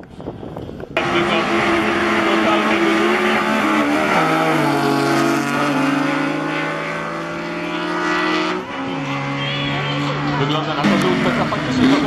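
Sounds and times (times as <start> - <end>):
engines shifting gear: 0.6 - 12.0
drag race cars accelerating: 0.9 - 12.0.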